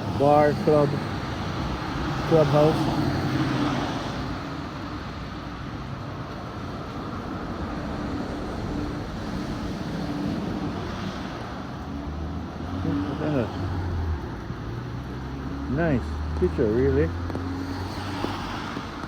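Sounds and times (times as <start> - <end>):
passing vehicle traffic: 0.0 - 19.0.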